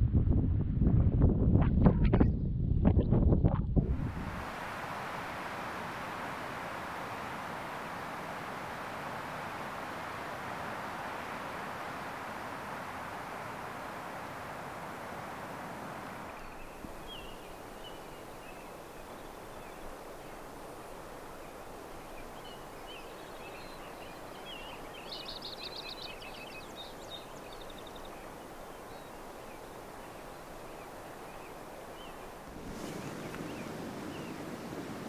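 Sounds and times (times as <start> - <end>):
outdoor background hiss: 3.8 - 35.0
small songbirds chirping: 4.4 - 35.0.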